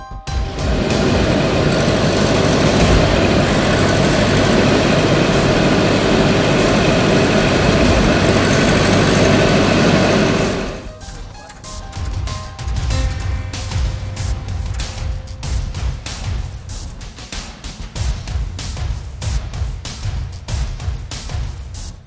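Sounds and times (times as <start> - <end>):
fans blowing air: 0.3 - 22.0.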